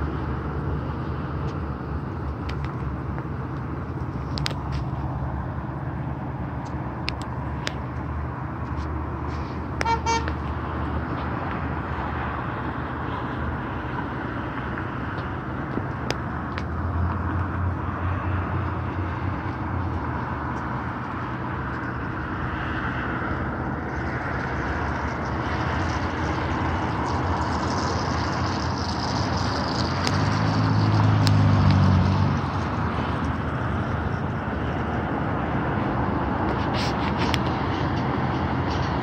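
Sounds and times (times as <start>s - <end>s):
cars rushing past: 0.0s - 39.0s
loud vehicle passing: 0.0s - 39.0s
steady engine hum: 0.0s - 39.0s.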